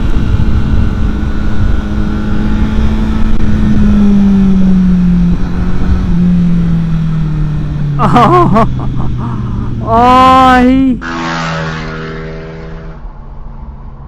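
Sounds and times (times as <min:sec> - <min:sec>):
road rumble: 0:00.0 - 0:14.0
vehicle engine drone: 0:00.0 - 0:14.0.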